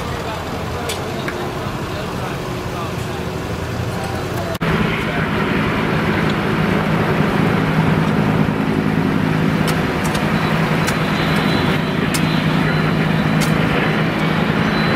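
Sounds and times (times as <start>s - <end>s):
engine idling with low hum: 0.0s - 14.9s.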